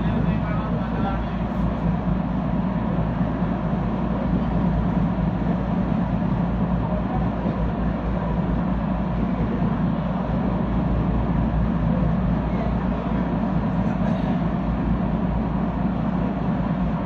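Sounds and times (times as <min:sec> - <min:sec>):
boat engine drone: 0:00.0 - 0:17.0
wind: 0:00.0 - 0:17.0.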